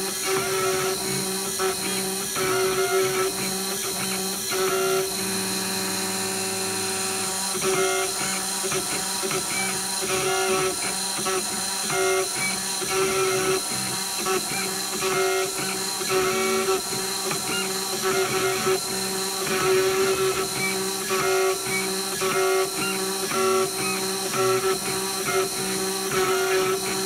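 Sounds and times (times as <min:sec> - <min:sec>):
engraver spindle running: 0:00.0 - 0:27.0
stepper motors whining: 0:00.0 - 0:27.0.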